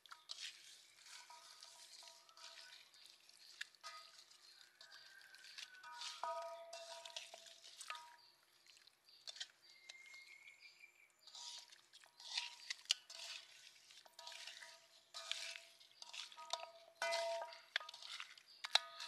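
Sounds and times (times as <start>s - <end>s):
hands kneading wet raw meat: 0.0s - 10.6s, 11.2s - 19.0s.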